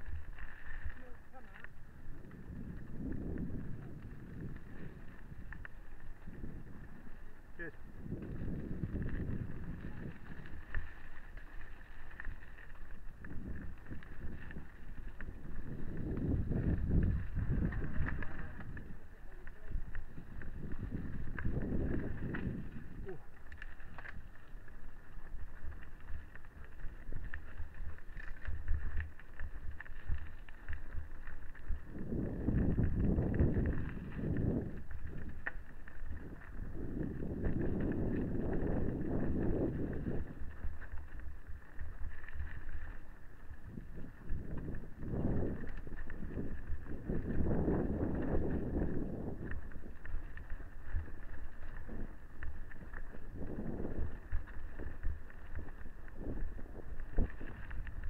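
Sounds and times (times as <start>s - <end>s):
bike clicks and rattles: 0.0s - 58.0s
bike tyres rumbling on dirt: 0.0s - 58.0s
wind buffeting microphone: 0.0s - 58.0s.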